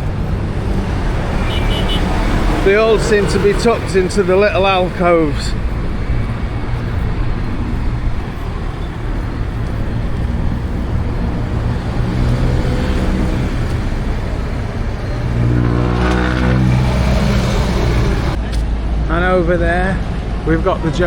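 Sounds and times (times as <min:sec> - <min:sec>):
vehicle engine approaching: 0:00.0 - 0:18.5
road traffic: 0:00.0 - 0:21.0.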